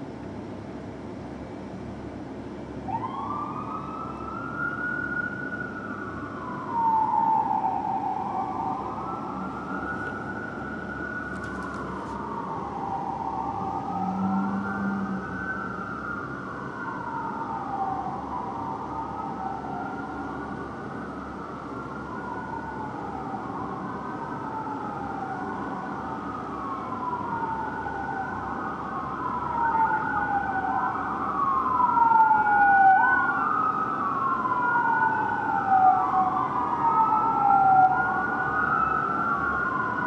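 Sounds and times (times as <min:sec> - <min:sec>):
emergency sirens wailing: 0:02.6 - 0:40.0.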